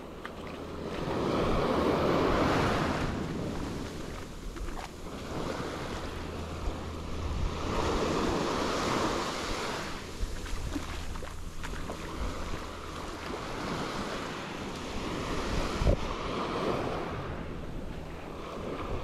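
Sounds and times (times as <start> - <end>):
ocean waves breaking on beach: 0.0 - 19.0
wind rumble on microphone: 0.0 - 19.0.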